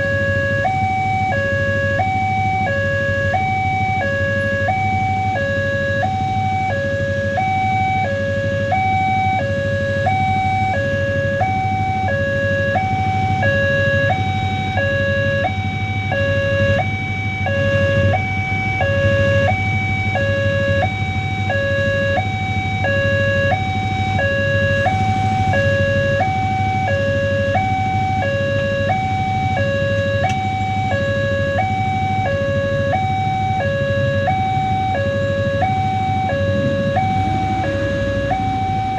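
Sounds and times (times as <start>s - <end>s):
two-tone crossing alarm chime: 0.0s - 38.9s.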